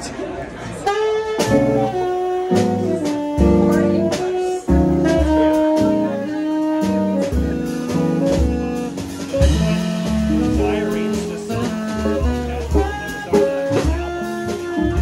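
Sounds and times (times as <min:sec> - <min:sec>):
double bass: 0:00.7 - 0:15.0
electric guitar: 0:00.8 - 0:15.0
tenor saxophone melody: 0:00.8 - 0:15.0
drums with cymbals: 0:00.9 - 0:15.0.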